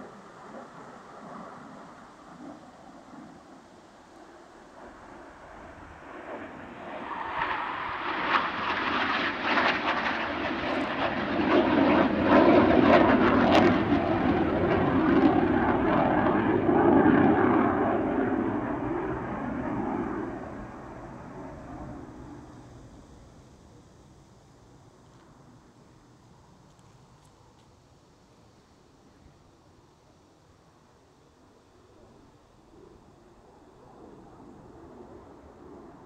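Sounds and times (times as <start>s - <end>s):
jet engine roar with crackles: 0.0s - 36.0s.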